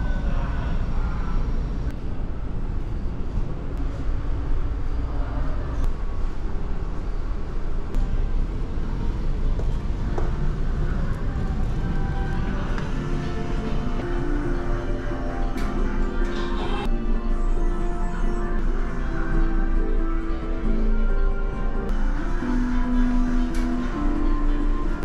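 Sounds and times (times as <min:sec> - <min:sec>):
ship engines rumbling: 0:00.0 - 0:25.0.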